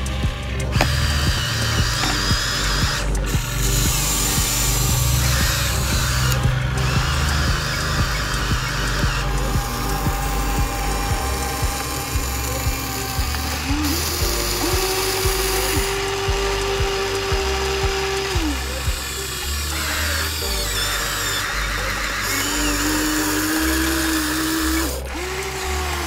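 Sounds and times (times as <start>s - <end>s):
background music with beat: 0.0s - 26.0s
toy electric motor whine: 0.0s - 26.0s.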